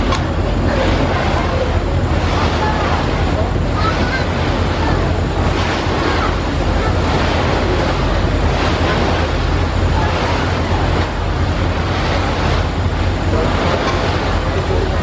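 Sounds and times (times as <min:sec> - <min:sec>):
low engine hum: 0:00.0 - 0:15.0
water rushing from boat wake: 0:00.0 - 0:15.0
wind buffeting microphone: 0:00.0 - 0:15.0.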